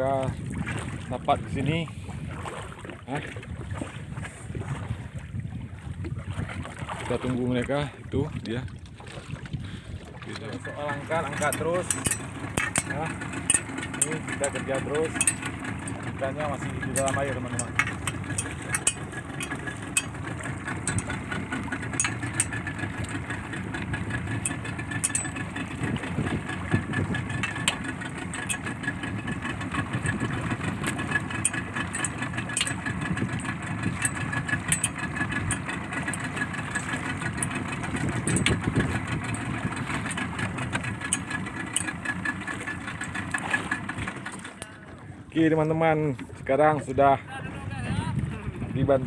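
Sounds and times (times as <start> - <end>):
boat engine idling: 0.0 - 49.0.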